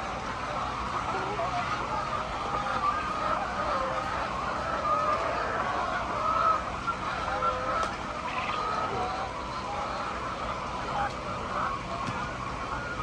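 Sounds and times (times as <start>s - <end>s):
flock of chickens calling: 0.0s - 13.0s.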